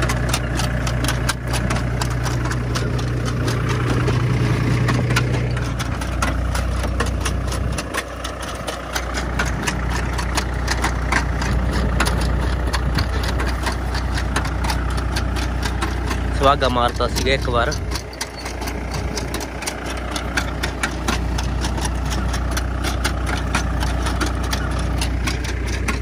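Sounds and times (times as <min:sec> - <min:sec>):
planter clicking and rattling: 0:00.0 - 0:26.0
tractor diesel engine running: 0:00.0 - 0:26.0.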